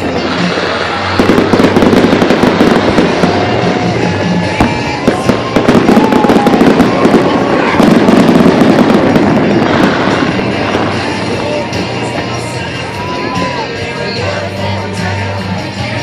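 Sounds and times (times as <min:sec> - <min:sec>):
fireworks bangs and crackling: 0:00.0 - 0:14.4.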